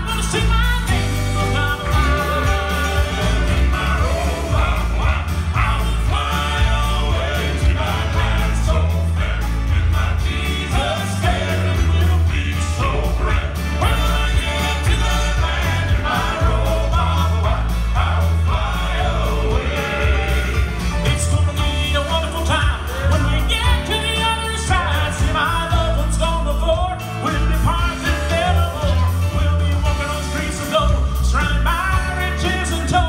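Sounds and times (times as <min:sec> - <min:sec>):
keyboard accompaniment: 0:00.0 - 0:33.0
male quartet singing in harmony: 0:00.0 - 0:33.0.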